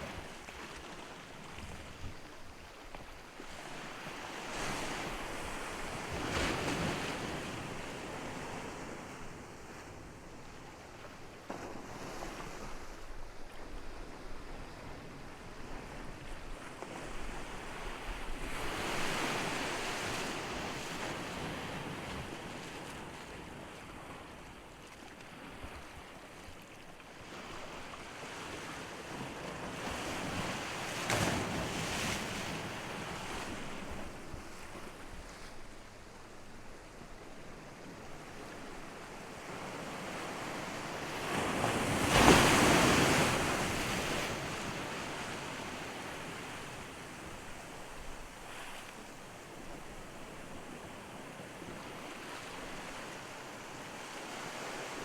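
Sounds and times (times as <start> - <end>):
waves breaking on shore: 0.0 - 55.0.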